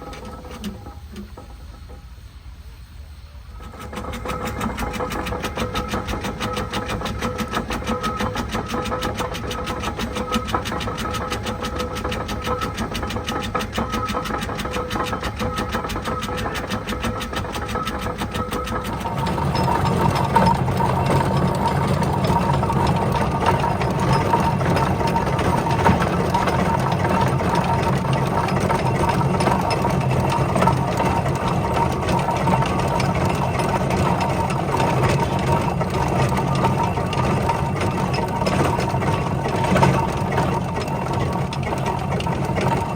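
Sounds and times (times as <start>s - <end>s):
tractor engine running: 3.5s - 42.9s.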